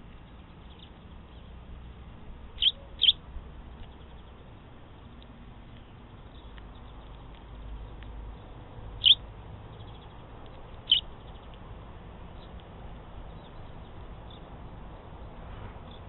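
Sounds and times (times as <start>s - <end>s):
sparrow chirping: 0.1s - 1.6s, 2.5s - 16.0s.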